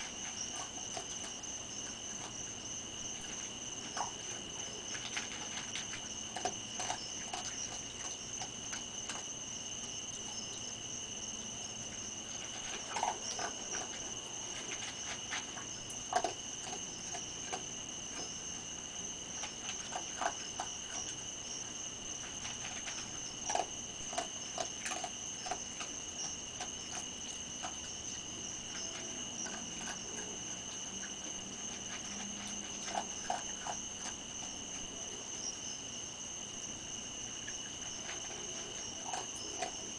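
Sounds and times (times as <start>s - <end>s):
night insects trilling: 0.0s - 39.9s
raccoon chewing food: 0.0s - 39.9s.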